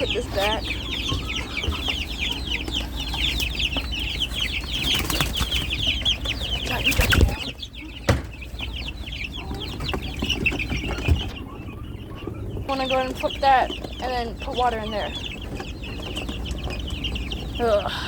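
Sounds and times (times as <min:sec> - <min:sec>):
chickens calling: 0:00.0 - 0:18.0.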